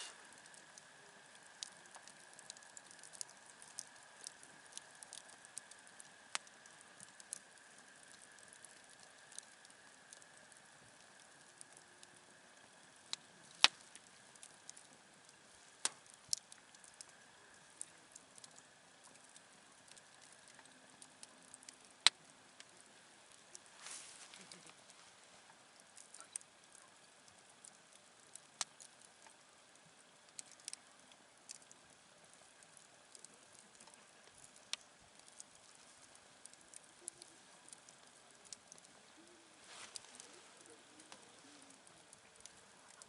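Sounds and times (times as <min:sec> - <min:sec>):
campfire crackling: 0:00.0 - 0:43.0
faint steady hiss: 0:00.0 - 0:43.0.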